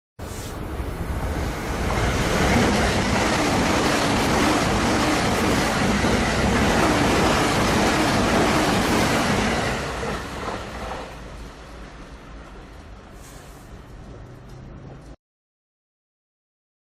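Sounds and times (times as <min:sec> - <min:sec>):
electric train passing: 0:00.3 - 0:15.2.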